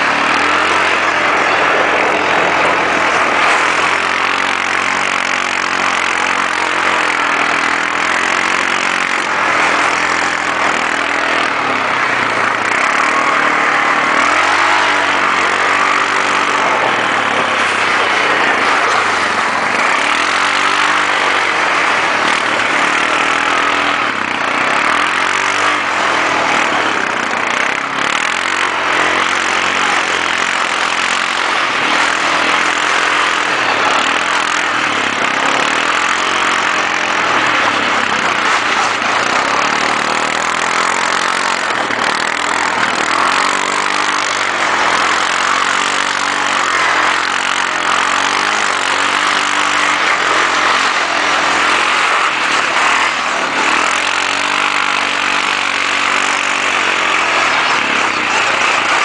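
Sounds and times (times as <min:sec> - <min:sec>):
quad bike engine revving: 0:00.0 - 0:59.0
steady rushing noise: 0:00.0 - 0:59.0.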